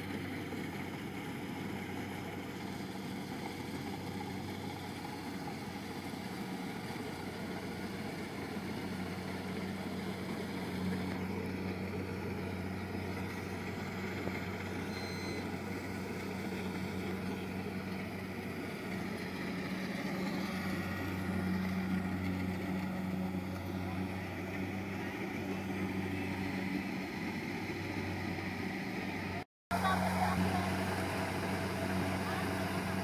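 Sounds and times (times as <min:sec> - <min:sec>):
combine harvester engine hum: 0:00.0 - 0:33.0.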